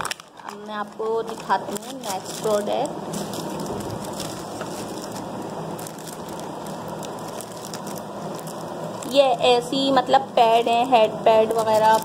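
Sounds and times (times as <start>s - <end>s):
plastic packaging crinkling: 0.0s - 9.8s, 10.4s - 12.0s.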